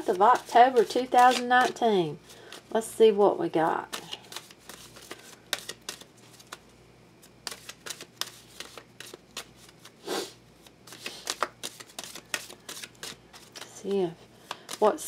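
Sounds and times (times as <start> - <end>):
cards being shuffled: 0.0 - 2.7, 3.8 - 6.6, 7.2 - 10.0, 10.6 - 15.0.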